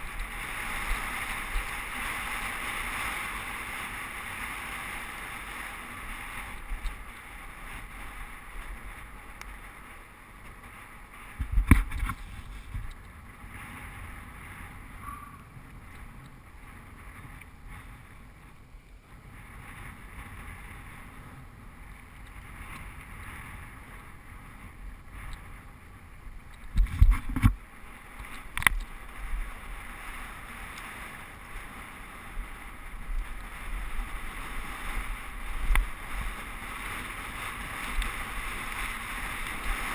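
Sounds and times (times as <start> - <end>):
bike tyre and trail noise: 0.0 - 39.9
wind rush on microphone: 0.0 - 39.9.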